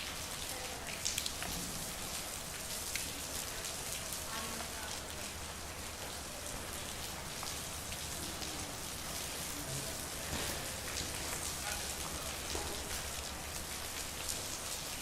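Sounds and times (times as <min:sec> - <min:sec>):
rain drops ticking on street: 0:00.0 - 0:15.0.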